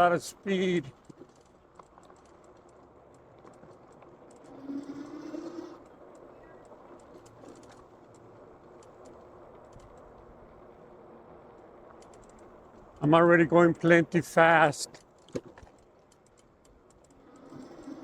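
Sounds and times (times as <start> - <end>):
light clicks and rattles: 0.0 - 14.2, 14.8 - 18.0
bike tyre and wind noise: 0.8 - 13.8, 14.9 - 18.0.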